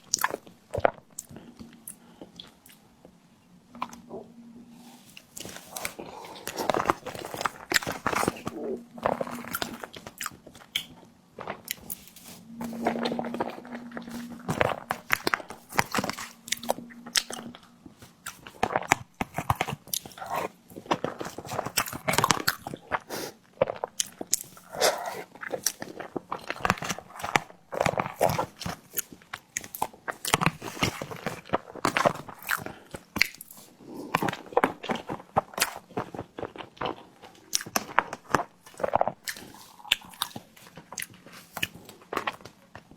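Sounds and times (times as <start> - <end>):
crunchy bites and chewing: 0.0 - 42.9.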